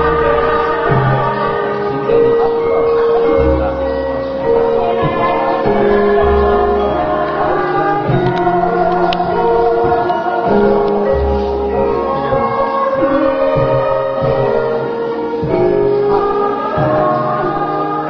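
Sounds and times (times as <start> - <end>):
voices singing: 0.0 - 18.0.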